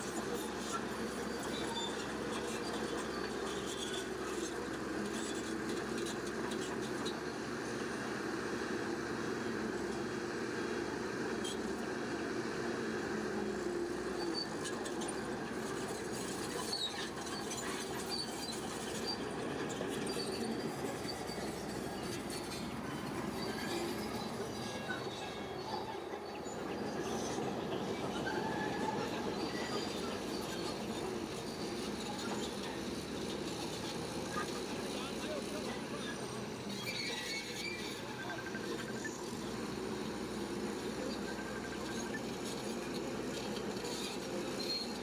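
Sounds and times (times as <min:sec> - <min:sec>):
heavy machinery diesel engine: 0:00.0 - 0:45.0.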